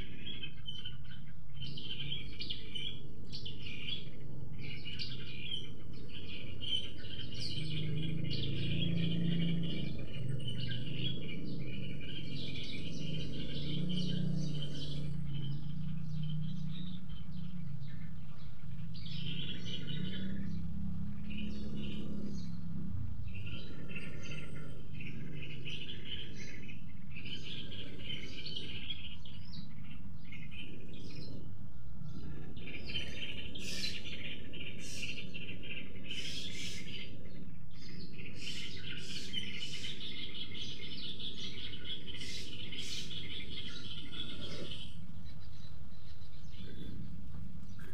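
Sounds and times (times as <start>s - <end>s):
songbirds chirping and singing: 0.0s - 47.9s.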